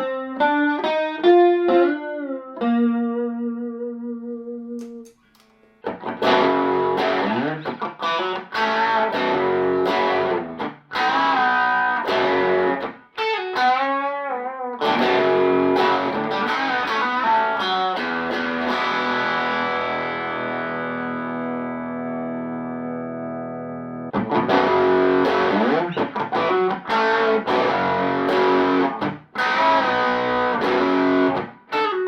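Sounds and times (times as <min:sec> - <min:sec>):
clean electric guitar chords: 0:05.8 - 0:32.0.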